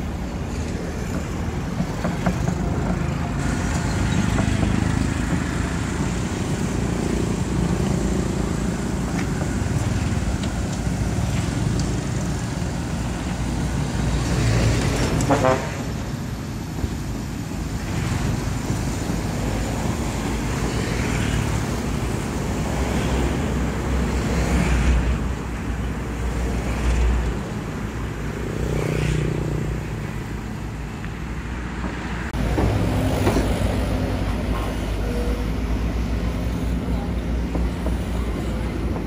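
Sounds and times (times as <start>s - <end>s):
excavator diesel engine under load: 0.0s - 39.0s.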